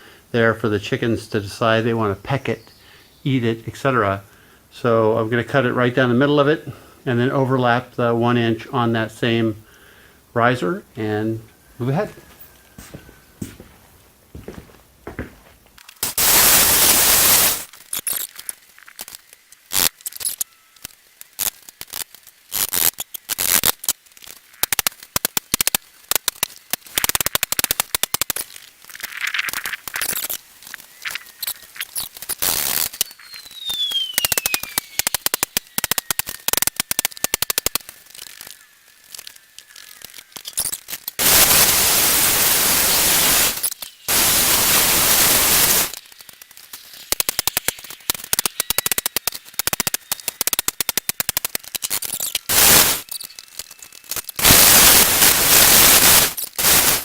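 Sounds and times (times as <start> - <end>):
loud steady hissing: 0.0 - 57.0.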